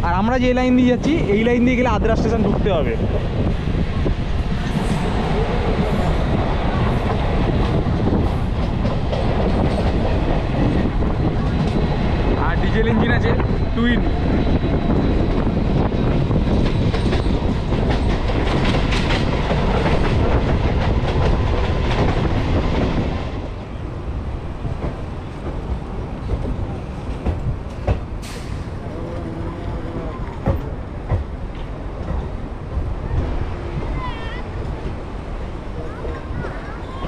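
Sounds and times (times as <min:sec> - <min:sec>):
train wheels running on rails: 0:00.1 - 0:37.0.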